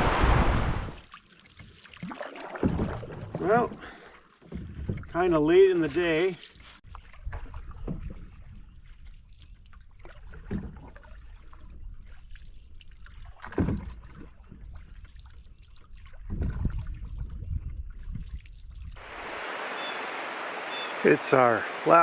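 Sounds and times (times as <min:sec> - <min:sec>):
paddle stroke in water: 0:00.0 - 0:17.2, 0:19.0 - 0:22.0.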